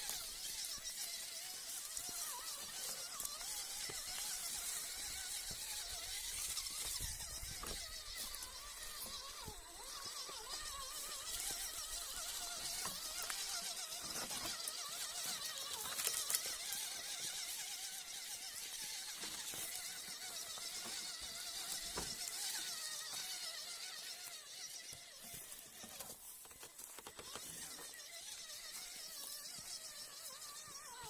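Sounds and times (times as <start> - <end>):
dry leaves and twigs crackling: 0.0 - 31.0
electric motor whining: 0.0 - 31.0.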